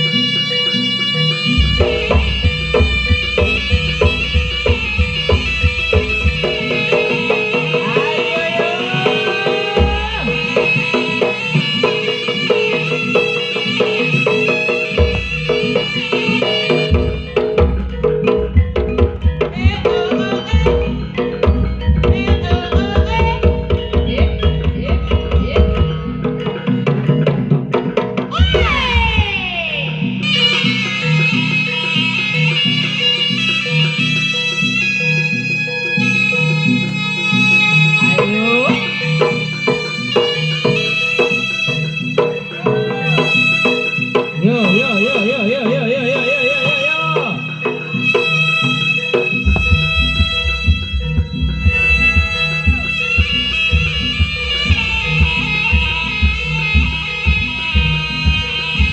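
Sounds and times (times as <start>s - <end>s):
ringing pitched percussion: 0.0s - 58.9s
wavering high melody: 0.0s - 58.9s
fast hand drum strokes: 1.5s - 29.6s, 37.3s - 58.9s.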